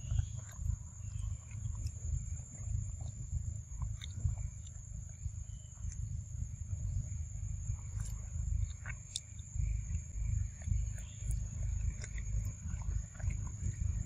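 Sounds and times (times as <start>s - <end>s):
insect drone: 0.0s - 14.0s
low rumble on microphone: 0.0s - 14.0s
monkey chewing: 0.0s - 14.0s.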